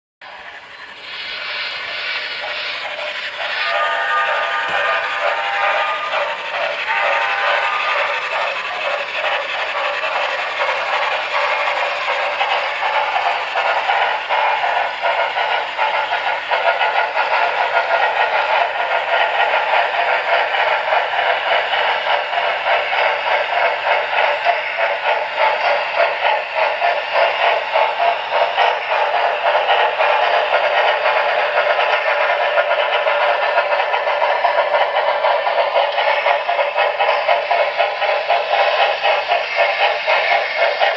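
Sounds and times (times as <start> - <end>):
model locomotive chuffing: 0.2 - 40.9.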